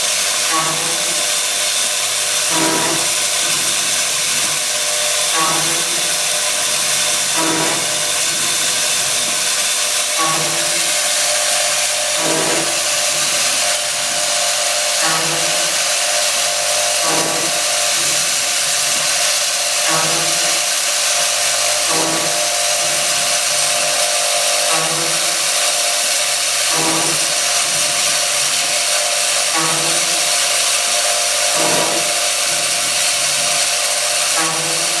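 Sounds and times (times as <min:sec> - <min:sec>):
milling machine whine and hiss: 0:00.0 - 0:35.0.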